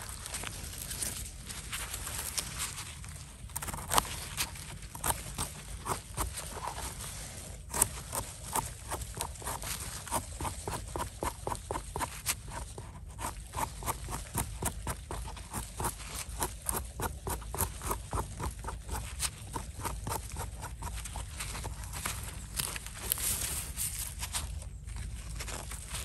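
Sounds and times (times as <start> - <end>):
knife scraping mushroom stem: 1.8 - 26.0.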